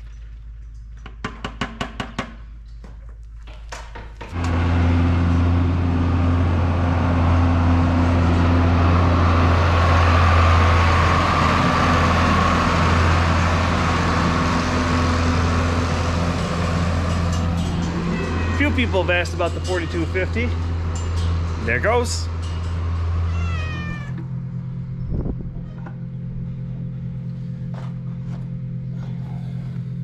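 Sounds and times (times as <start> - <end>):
tractor diesel engine droning: 4.3 - 30.0.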